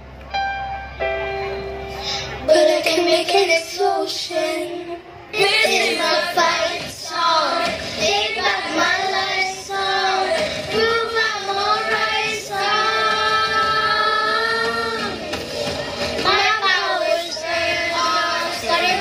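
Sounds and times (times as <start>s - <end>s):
child singing pop song: 2.4s - 19.0s.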